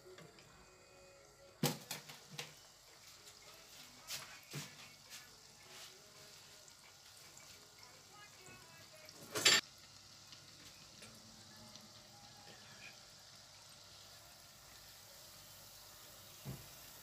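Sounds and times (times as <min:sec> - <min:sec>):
oil sizzling while deep-frying: 0:00.0 - 0:17.0.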